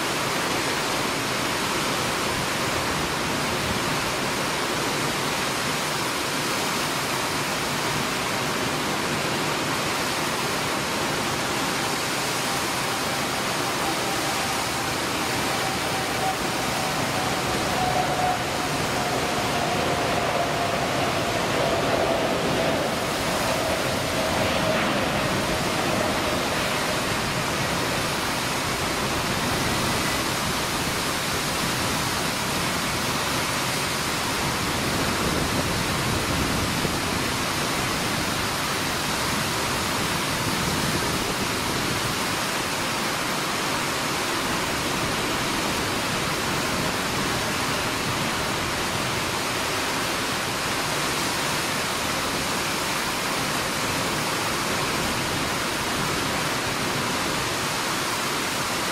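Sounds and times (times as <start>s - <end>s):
heavy rain hissing: 0.0s - 58.9s
jet engines roaring: 0.1s - 58.9s.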